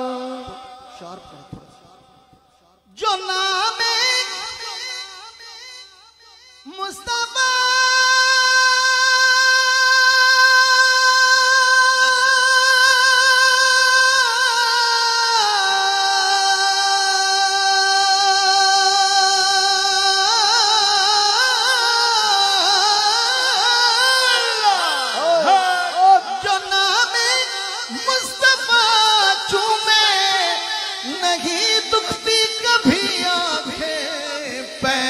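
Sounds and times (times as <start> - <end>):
man singing long high notes: 6.6 - 35.0.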